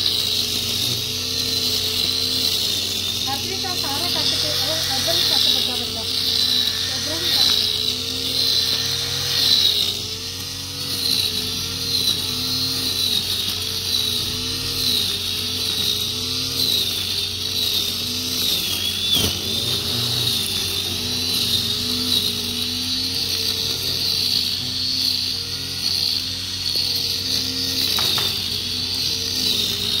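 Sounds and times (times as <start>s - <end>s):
grass trimmer cutting grass: 0.0s - 30.0s.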